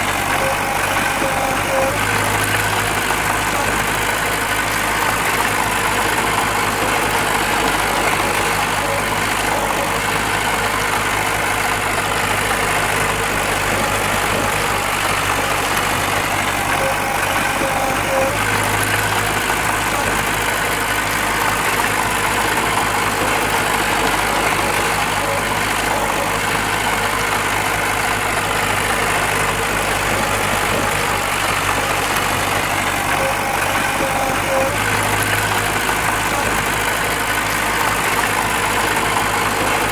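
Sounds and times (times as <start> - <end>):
heavy diesel machine engine running: 0.0 - 39.9.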